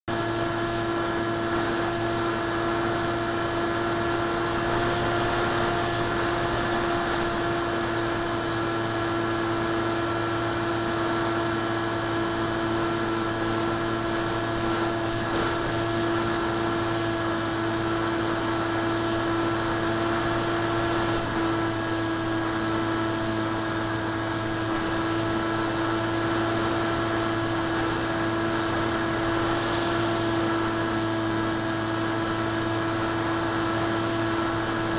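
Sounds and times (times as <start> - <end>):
model plane motor whine: 0.1 - 34.9.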